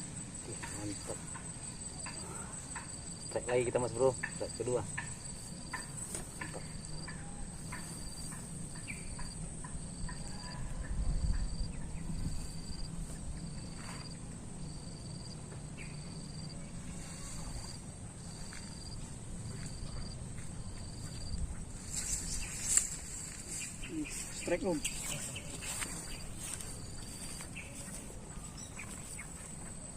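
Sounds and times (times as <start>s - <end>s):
high-pitched insect drone: 0.0s - 29.9s
insects chirping: 0.0s - 29.9s.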